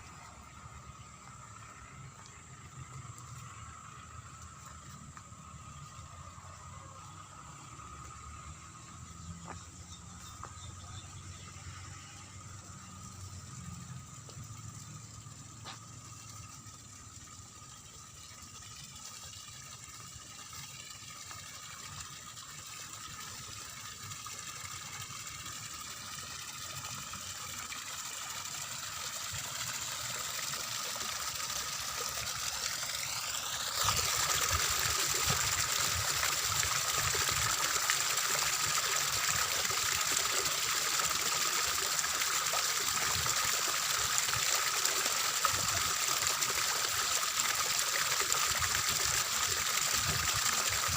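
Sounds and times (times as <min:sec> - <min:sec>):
water trickling and splashing: 0:00.0 - 0:50.9.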